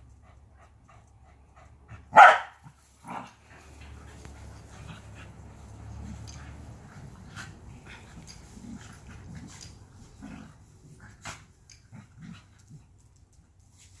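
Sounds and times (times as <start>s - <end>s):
dogs growling and huffing: 1.7s - 13.1s.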